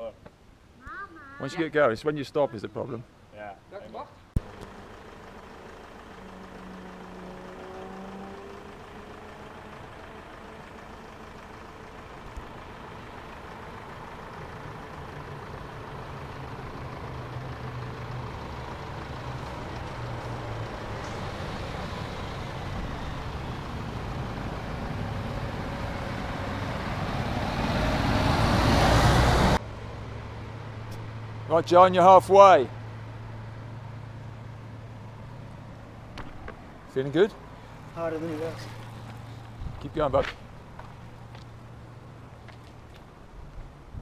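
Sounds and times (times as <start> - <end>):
car engine and tyre noise: 3.0 - 44.0.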